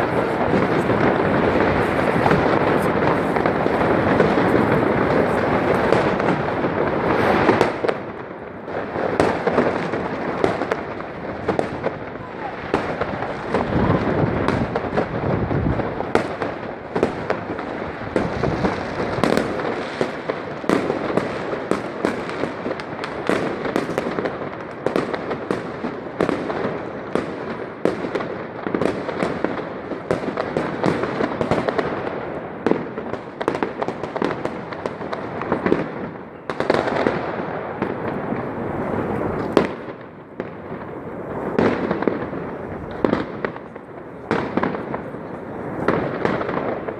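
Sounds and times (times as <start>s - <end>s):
fireworks crackling and banging: 0.0s - 46.9s.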